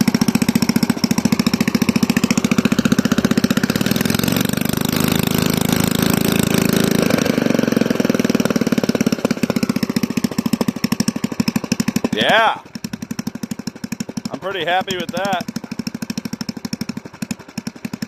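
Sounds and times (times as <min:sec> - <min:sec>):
small engine idling and revving: 0:00.0 - 0:18.0.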